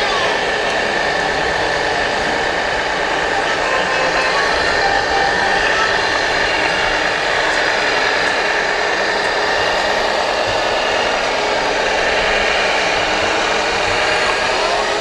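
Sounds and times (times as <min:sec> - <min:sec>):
model truck engine drone: 0:00.0 - 0:15.0.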